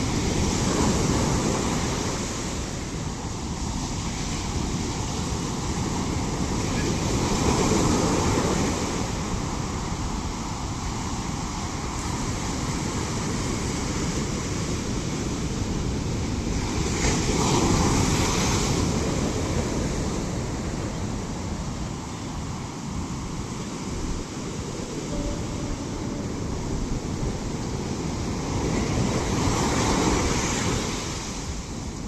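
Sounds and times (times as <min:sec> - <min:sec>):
ocean waves crashing: 0:00.0 - 0:32.0.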